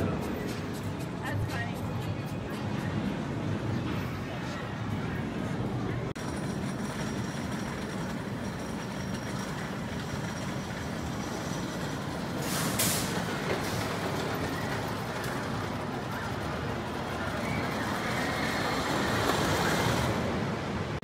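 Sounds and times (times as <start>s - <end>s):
roller coaster rumbling on track: 0.0s - 21.0s.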